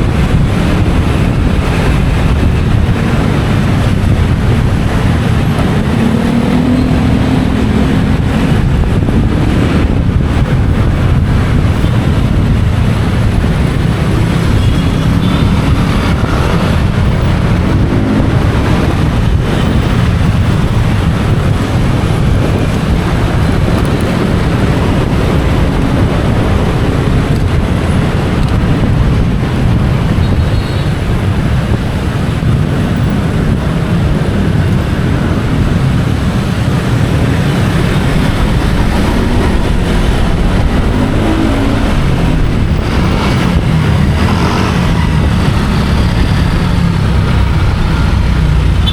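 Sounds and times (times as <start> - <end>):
motorcycle engine rumble: 0.0 - 48.9
wind noise on microphone: 0.0 - 48.9.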